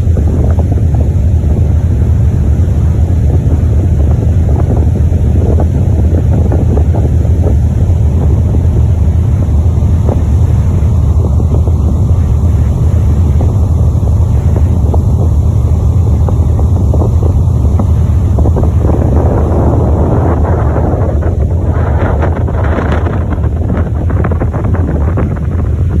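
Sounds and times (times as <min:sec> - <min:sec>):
crackling gusts: 0:00.0 - 0:26.0
low rumble: 0:00.0 - 0:26.0
wind buffeting microphone: 0:00.0 - 0:26.0.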